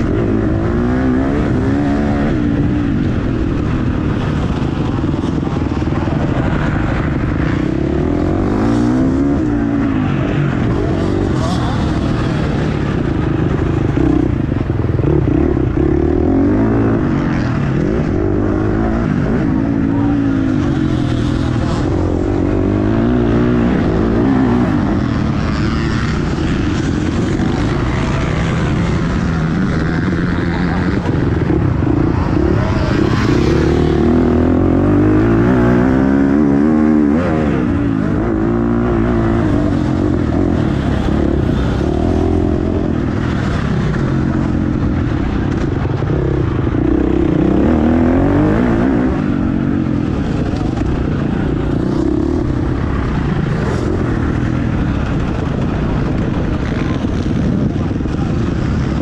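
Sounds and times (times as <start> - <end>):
motocross bike engine revving: 0.0 - 59.0
wind noise: 0.0 - 59.0.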